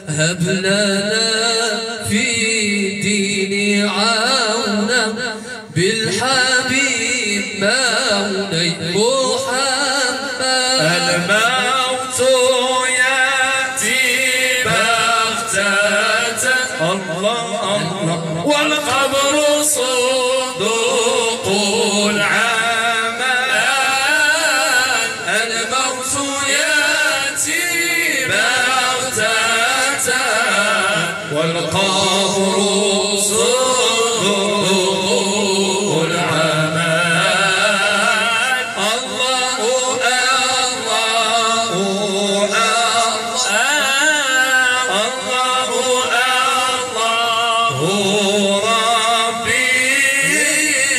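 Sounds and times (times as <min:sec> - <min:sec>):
men chanting devotional praise: 0:00.0 - 0:50.9.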